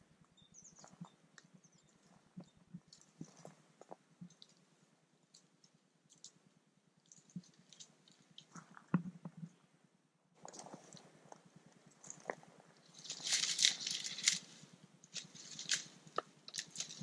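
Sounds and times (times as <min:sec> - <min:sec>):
faint clicks and crackles: 0:00.2 - 0:09.6, 0:10.4 - 0:17.0.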